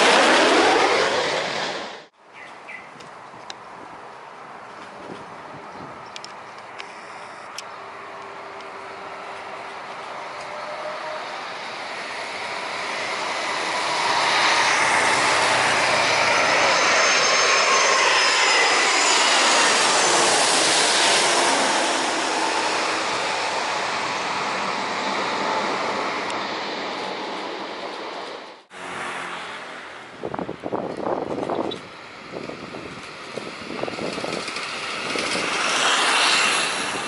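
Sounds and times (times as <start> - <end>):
aircraft engines roaring: 0.0 - 2.1, 3.4 - 37.0.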